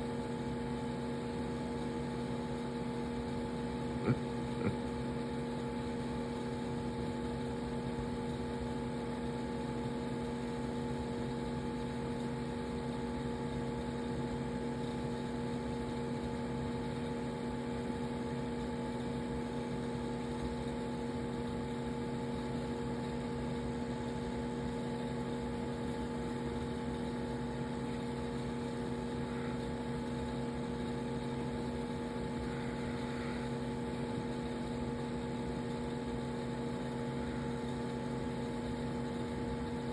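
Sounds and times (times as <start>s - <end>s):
aquarium equipment humming: 0.0s - 39.9s.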